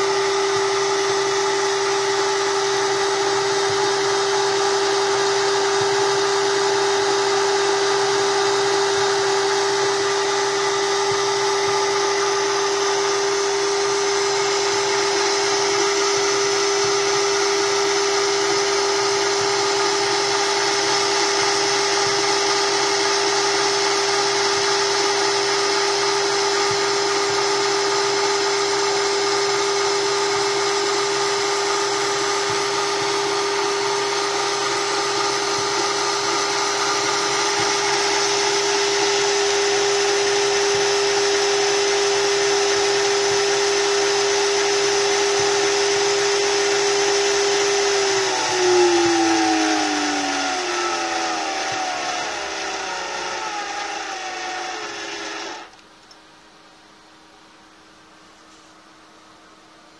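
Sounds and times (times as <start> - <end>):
coil winder mechanical whine: 0.0 - 59.9.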